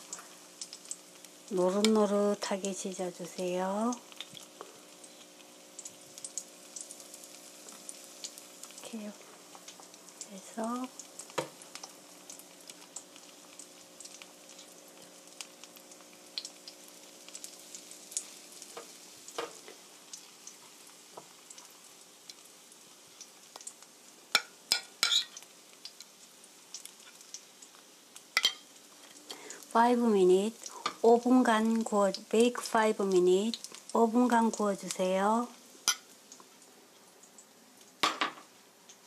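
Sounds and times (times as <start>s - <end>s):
peppers sizzling in oil: 0.0s - 39.0s.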